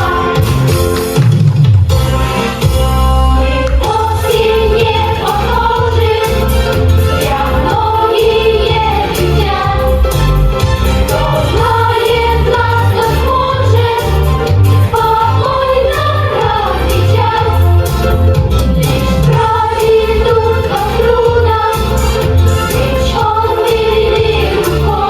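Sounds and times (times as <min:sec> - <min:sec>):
group of voices singing: 0:00.0 - 0:01.0, 0:03.4 - 0:25.0
steady bass beat: 0:03.8 - 0:25.0.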